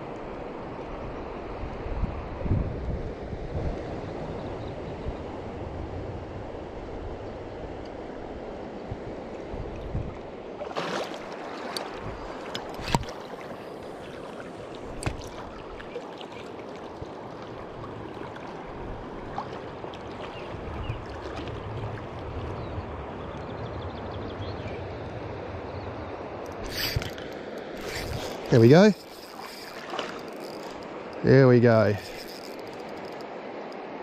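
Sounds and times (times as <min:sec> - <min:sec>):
river water flowing and gurgling: 0:00.0 - 0:23.7, 0:24.3 - 0:34.0.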